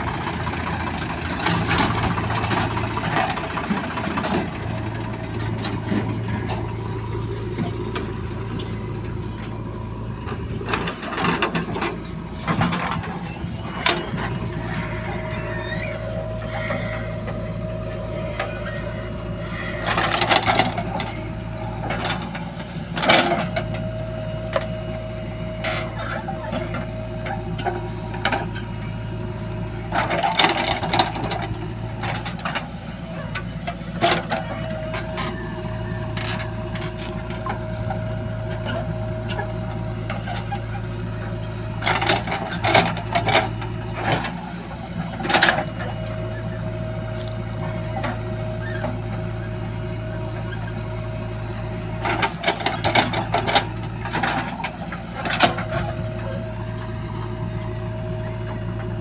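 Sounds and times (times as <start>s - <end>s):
diesel machinery running: 0.0s - 59.0s.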